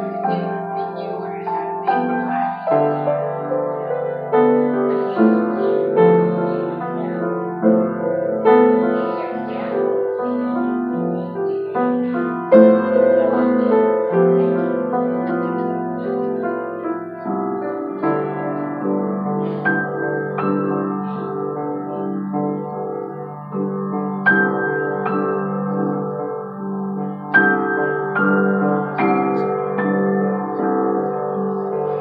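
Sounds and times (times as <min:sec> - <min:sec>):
grand piano chords and melody: 0:00.0 - 0:32.0.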